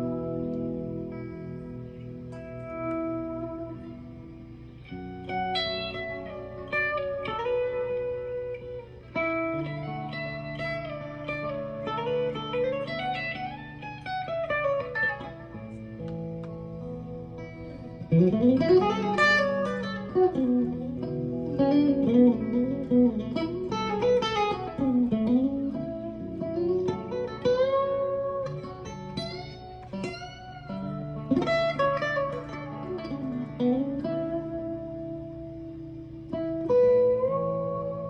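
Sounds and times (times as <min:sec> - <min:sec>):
clean electric guitar lead: 0:00.0 - 0:38.0.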